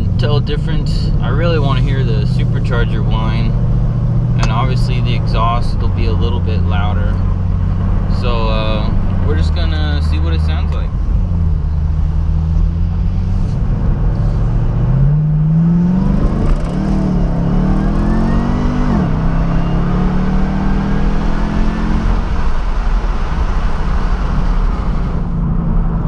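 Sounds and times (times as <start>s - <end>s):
car engine accelerating hard: 0.0s - 26.0s
supercharger whine: 0.0s - 26.0s.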